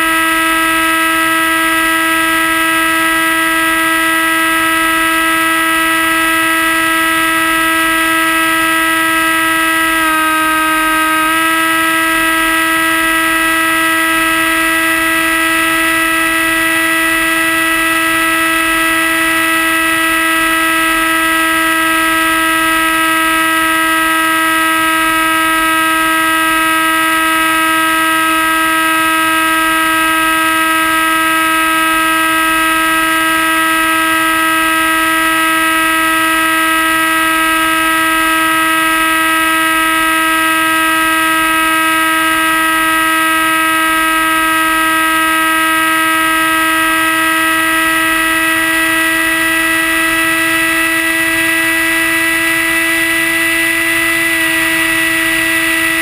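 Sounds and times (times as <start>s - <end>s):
model airplane motor whine: 0.0s - 56.0s.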